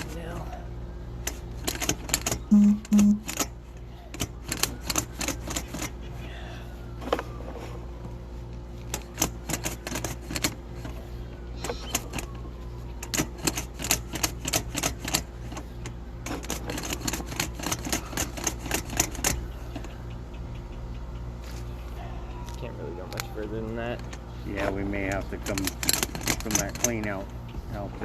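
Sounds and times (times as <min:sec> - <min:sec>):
steady low hum: 0:00.0 - 0:23.1.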